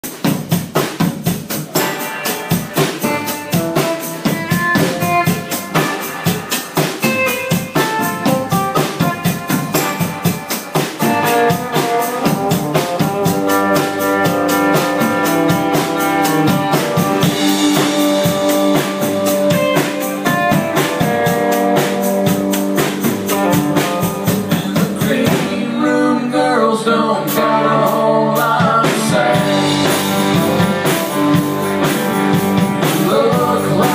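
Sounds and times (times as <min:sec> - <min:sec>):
drum kit fast beat: 0:00.0 - 0:25.8, 0:27.3 - 0:33.9
electric guitar chords: 0:01.6 - 0:25.8, 0:27.3 - 0:33.9.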